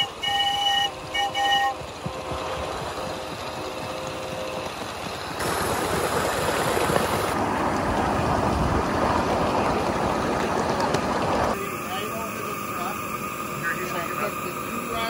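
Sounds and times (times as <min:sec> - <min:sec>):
steam locomotive rushing: 0:00.0 - 0:15.0.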